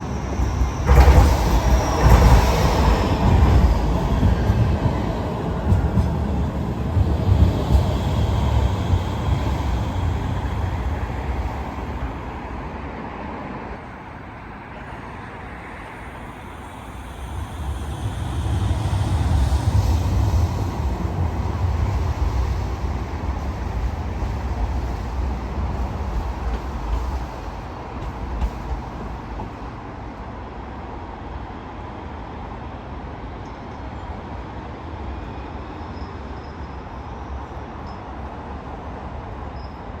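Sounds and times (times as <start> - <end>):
tram rumbling past on rails: 0.0 - 40.0.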